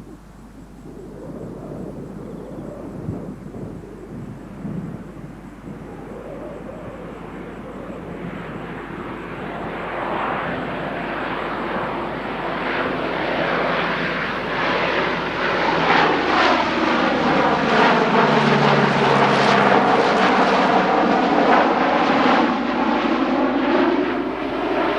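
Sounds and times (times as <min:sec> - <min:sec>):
turboprop plane taking off: 0:00.0 - 0:24.9.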